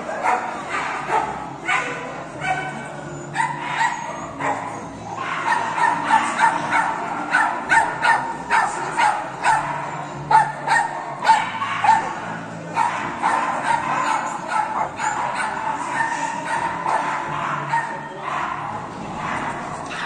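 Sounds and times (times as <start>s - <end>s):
dog barking: 0.0s - 20.0s.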